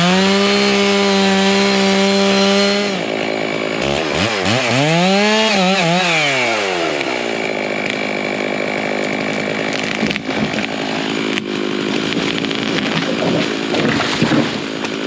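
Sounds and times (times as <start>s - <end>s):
chainsaw running at high revs: 0.0s - 15.0s.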